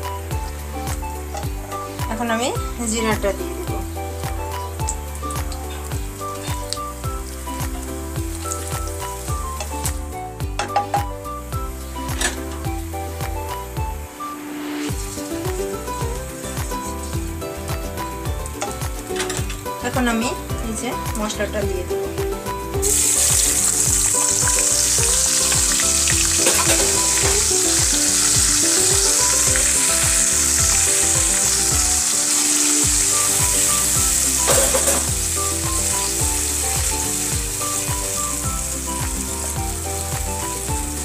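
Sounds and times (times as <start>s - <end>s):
spice paste sizzling in oil: 0.0s - 10.5s, 11.2s - 41.0s.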